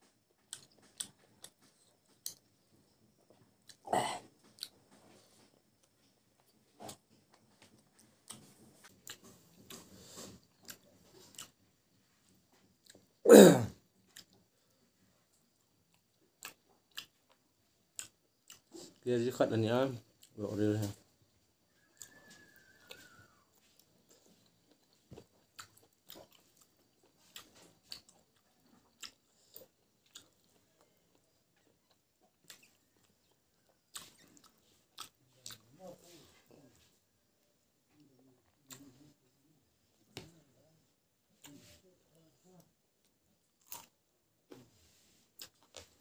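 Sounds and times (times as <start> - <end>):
faint chewing: 0.0 - 13.2, 13.8 - 46.0.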